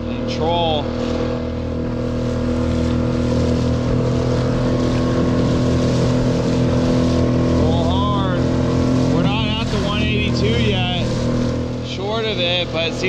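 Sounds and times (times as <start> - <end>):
small outboard motor running: 0.0 - 13.0
water rushing past hull: 0.0 - 13.0.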